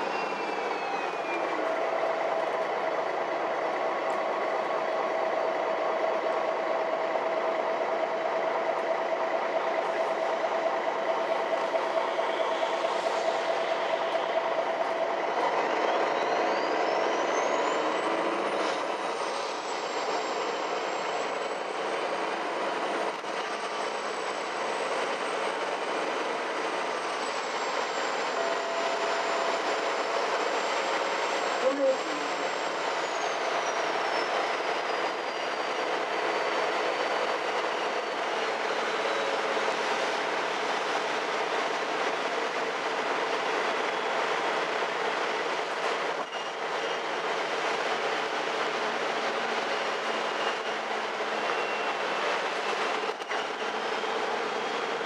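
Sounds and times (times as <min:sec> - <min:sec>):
bus engine and running gear: 0:00.0 - 0:55.0.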